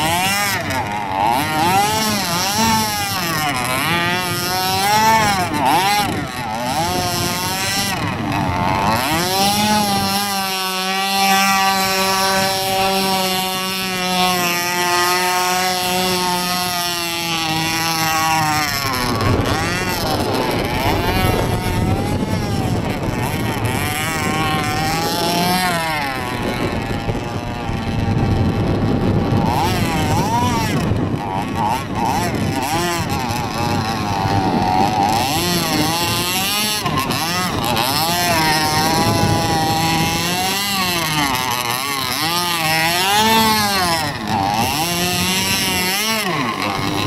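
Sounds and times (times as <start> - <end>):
rc boat motor running: 0.0 - 47.0.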